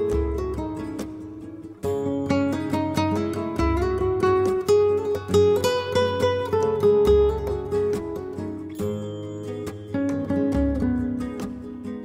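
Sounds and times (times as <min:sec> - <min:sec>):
plucked-string melody: 0:00.0 - 0:12.0.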